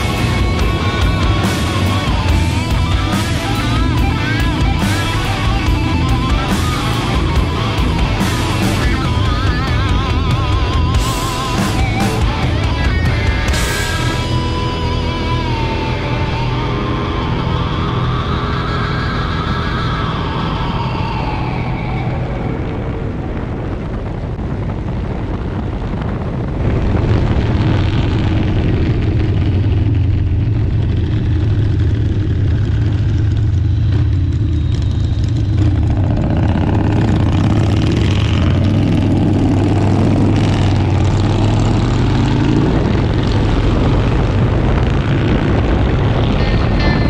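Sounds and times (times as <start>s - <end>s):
motorcycle engine cruising: 0.0s - 47.0s.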